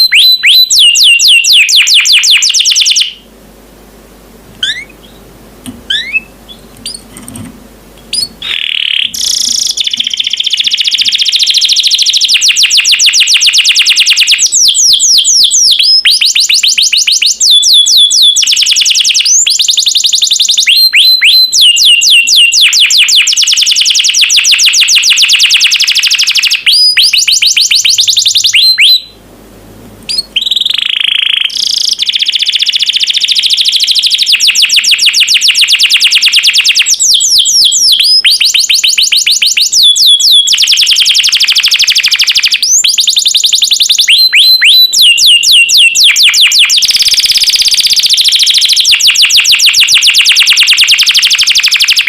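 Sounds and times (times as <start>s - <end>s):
canary singing trills: 0.0s - 3.3s, 4.6s - 7.4s, 8.0s - 29.2s, 30.1s - 52.0s.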